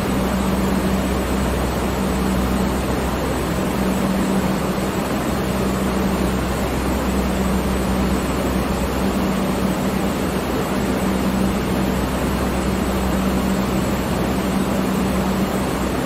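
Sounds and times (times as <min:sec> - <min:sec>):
electric fan running: 0:00.0 - 0:16.0
low motor hum: 0:00.0 - 0:16.0.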